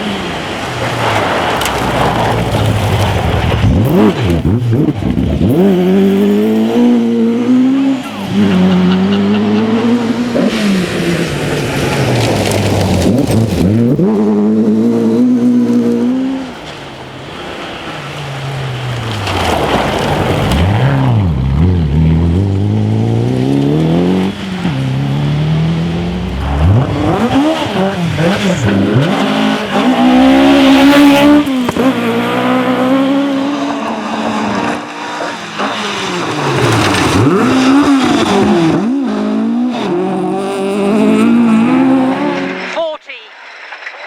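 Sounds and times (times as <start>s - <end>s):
rally car engine revving: 0.0s - 42.8s.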